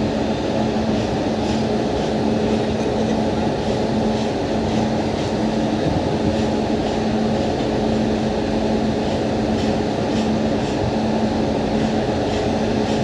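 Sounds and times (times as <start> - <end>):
electric locomotive humming: 0.0 - 13.0.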